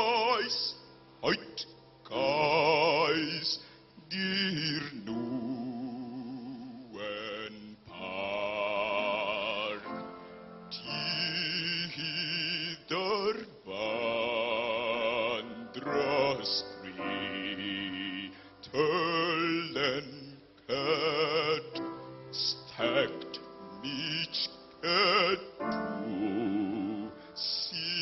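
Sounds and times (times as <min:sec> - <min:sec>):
person singing with vibrato: 0:00.0 - 0:28.0.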